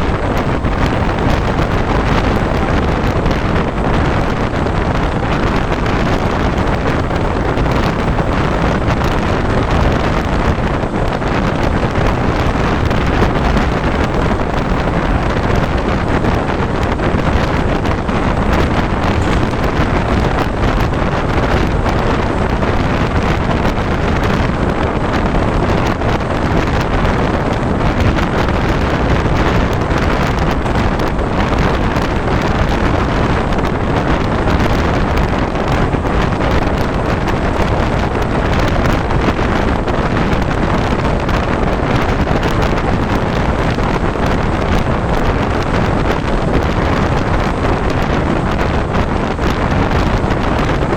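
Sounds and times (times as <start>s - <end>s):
train running noise: 0.0s - 50.9s
wind rushing over microphone: 0.0s - 50.9s.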